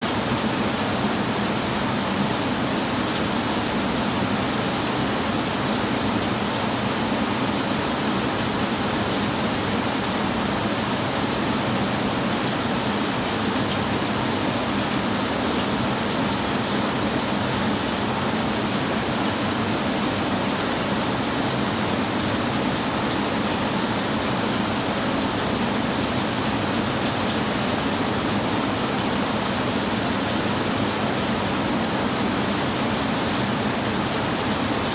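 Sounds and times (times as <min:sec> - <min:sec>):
rain on a tin roof: 0:00.1 - 0:34.9.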